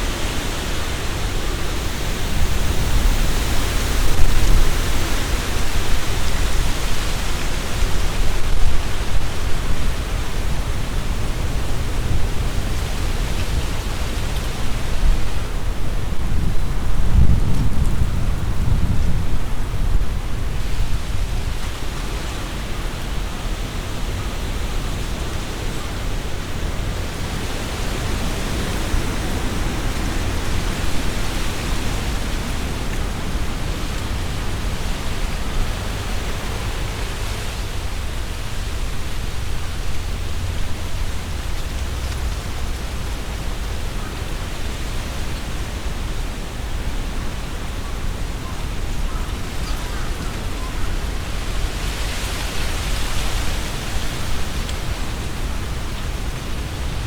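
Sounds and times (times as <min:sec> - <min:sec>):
leaves rustling: 0:00.0 - 0:57.0
wind blowing through trees: 0:00.0 - 0:57.0.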